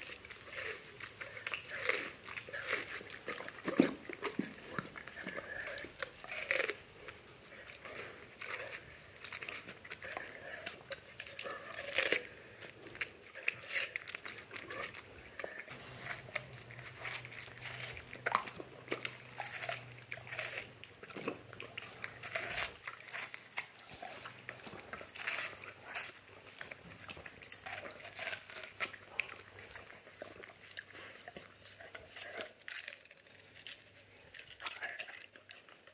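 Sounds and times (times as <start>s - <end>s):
dogs crunching watermelon: 0.0s - 35.9s.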